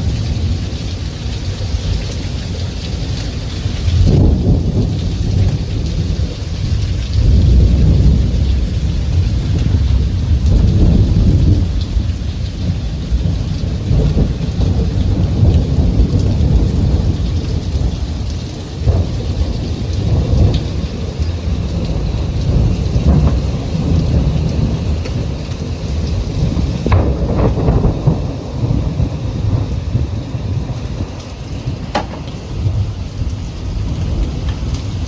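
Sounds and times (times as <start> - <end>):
heavy rain hissing: 0.0 - 35.0
rain drop ticks: 0.0 - 35.0
deep rolling thunder: 3.0 - 35.0.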